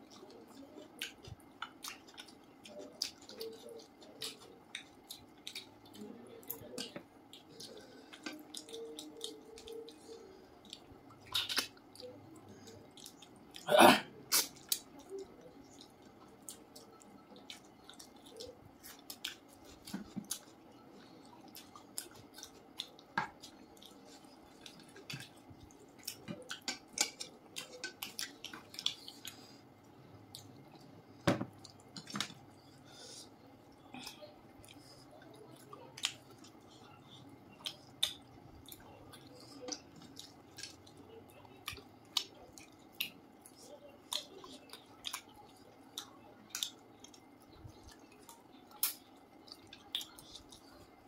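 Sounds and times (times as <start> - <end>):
wet chewing: 0.0 - 13.7, 14.3 - 30.9, 31.5 - 51.0.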